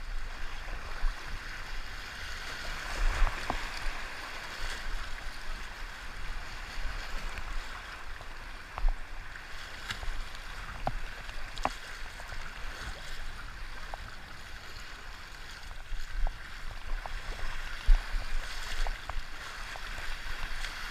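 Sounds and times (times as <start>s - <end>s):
river water rushing: 0.0s - 20.9s.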